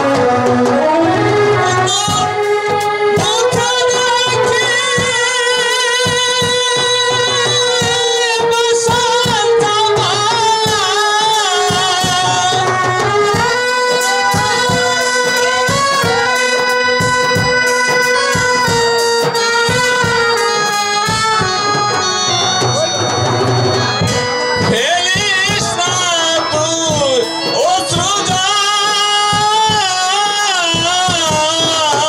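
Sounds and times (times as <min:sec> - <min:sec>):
instrumental accompaniment: 0:00.0 - 0:32.0
steady drum beat: 0:00.0 - 0:32.0
person singing with vibrato: 0:01.4 - 0:22.9, 0:24.1 - 0:32.0.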